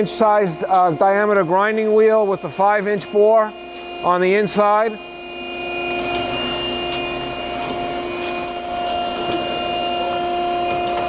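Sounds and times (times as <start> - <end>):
grinder motor hum and whine: 0.0 - 11.0.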